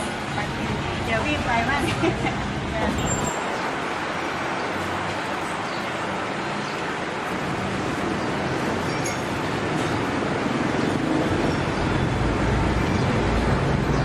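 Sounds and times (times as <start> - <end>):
busy street market hum: 0.0 - 14.0.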